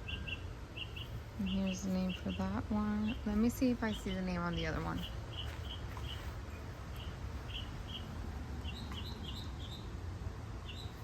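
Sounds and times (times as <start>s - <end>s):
small bird chirping: 0.0s - 10.0s, 10.6s - 11.0s
low background hum: 0.0s - 11.0s.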